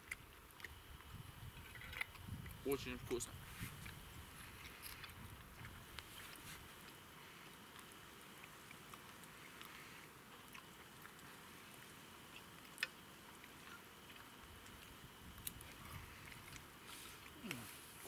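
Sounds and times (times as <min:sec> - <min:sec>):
people chewing: 0:00.0 - 0:18.0.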